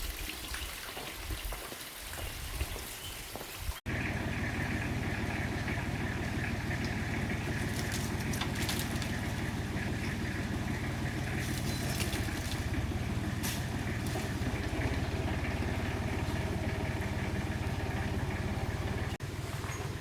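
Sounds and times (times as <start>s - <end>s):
engine running steadily: 3.9s - 20.0s.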